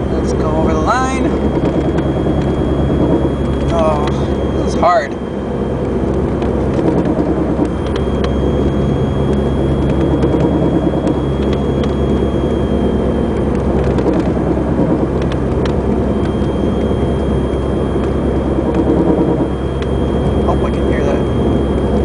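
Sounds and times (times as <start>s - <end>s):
car engine and road drone: 0.0s - 22.0s
thin high whine: 0.0s - 22.0s.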